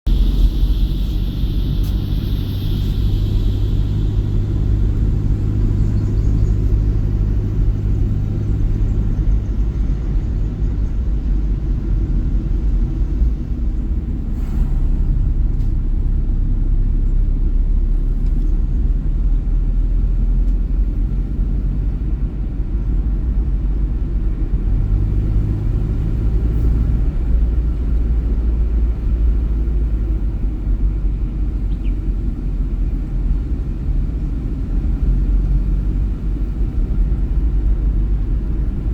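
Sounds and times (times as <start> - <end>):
road noise: 0.0 - 38.9
vehicle engine rumble: 0.0 - 38.9.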